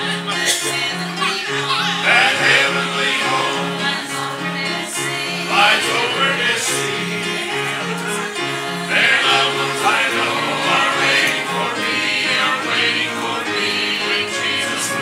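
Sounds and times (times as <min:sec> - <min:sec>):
gospel song with instruments: 0:00.0 - 0:15.0
singing: 0:00.0 - 0:15.0.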